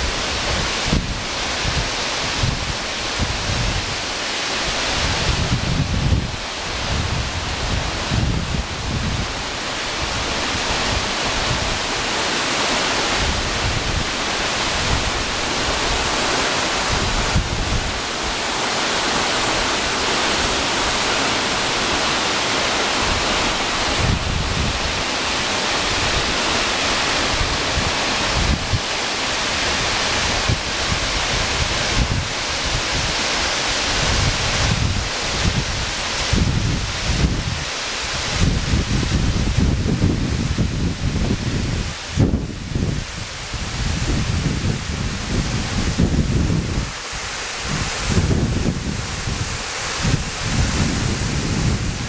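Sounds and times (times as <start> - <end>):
wind buffeting microphone: 0.0 - 4.1, 4.8 - 12.2, 12.9 - 52.0
waterfall rushing: 0.0 - 52.0.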